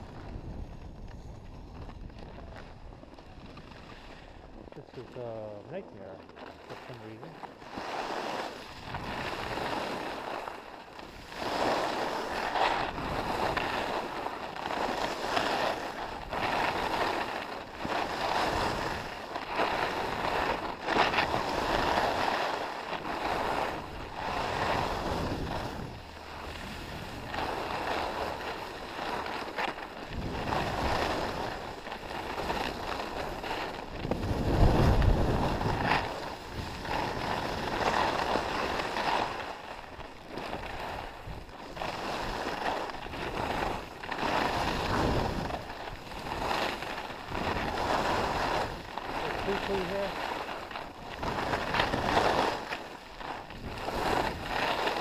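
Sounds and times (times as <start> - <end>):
skis scraping on snow: 0.0 - 55.0
wind rumbling on microphone: 0.0 - 55.0.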